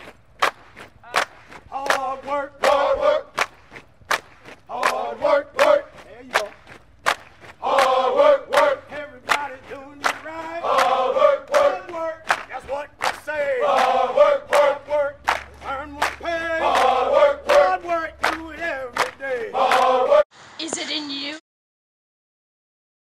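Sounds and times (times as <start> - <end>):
sharp steady beat: 0.0 - 20.0
group chanting and shouting: 0.0 - 20.3.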